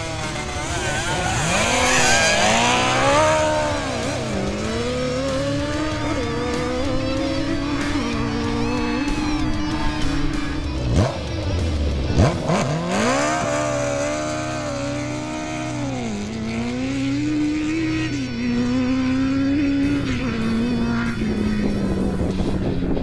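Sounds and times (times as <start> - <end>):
motorcycle accelerating through gears: 0.0 - 23.0
motorcycle engine revving: 0.0 - 23.0.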